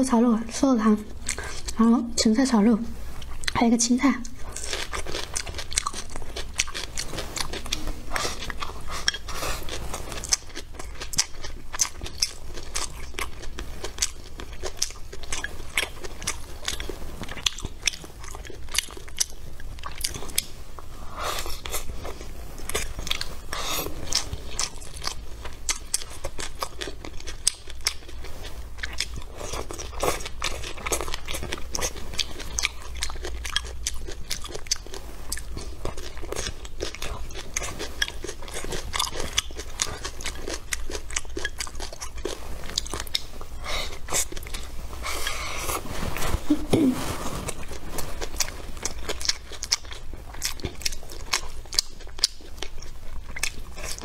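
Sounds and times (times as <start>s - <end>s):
chewing and crunching: 0.6s - 1.8s, 3.1s - 54.0s.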